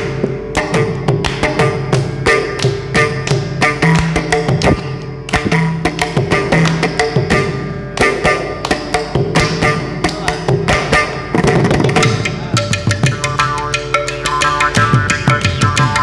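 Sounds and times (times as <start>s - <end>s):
other percussion: 0.0s - 16.0s
drum playing fast strokes: 0.7s - 16.0s.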